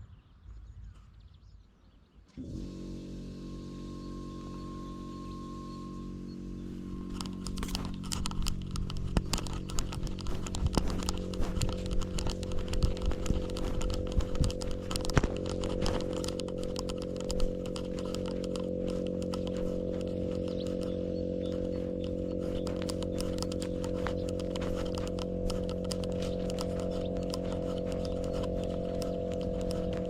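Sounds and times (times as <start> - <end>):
steady low hum: 2.4 - 30.0
scratching and clicking: 5.9 - 30.0.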